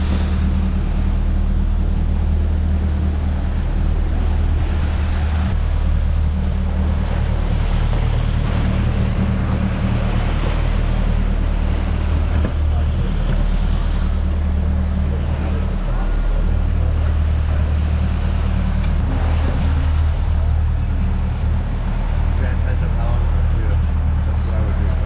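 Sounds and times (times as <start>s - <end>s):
boat engine humming: 0.0s - 25.0s
churning wake rushing: 0.0s - 25.0s.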